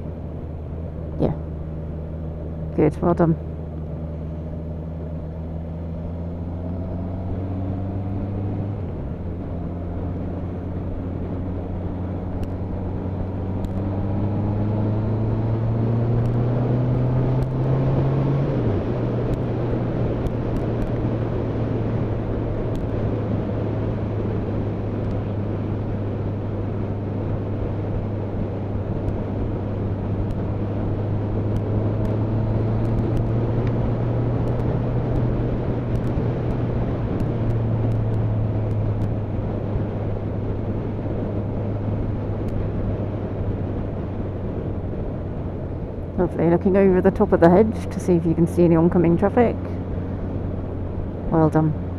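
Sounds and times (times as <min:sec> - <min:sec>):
motorcycle engine accelerating: 0:00.0 - 0:51.9
wind and road noise: 0:00.0 - 0:51.9.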